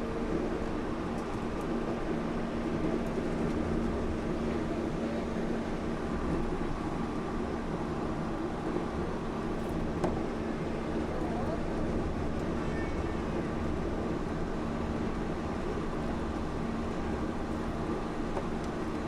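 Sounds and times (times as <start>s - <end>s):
train rumble inside car: 0.0s - 19.0s.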